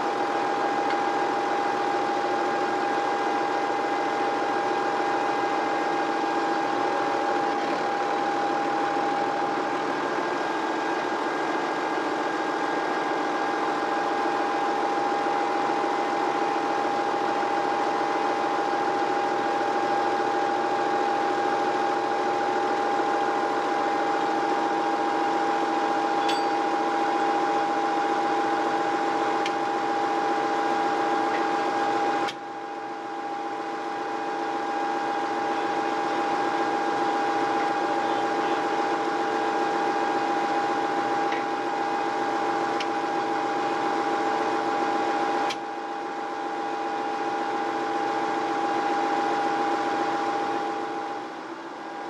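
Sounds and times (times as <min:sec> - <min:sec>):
tractor diesel engine idling: 0:00.0 - 0:51.4
constant whine: 0:00.0 - 0:52.0.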